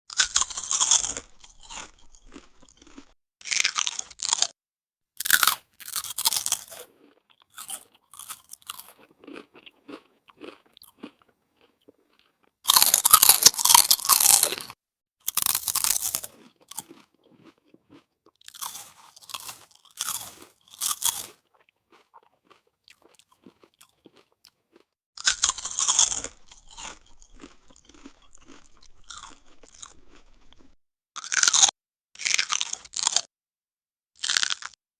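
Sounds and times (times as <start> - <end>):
chips crunching: 0.1 - 4.5, 5.2 - 33.3, 34.2 - 34.8
chewing: 0.2 - 4.5, 5.2 - 33.3.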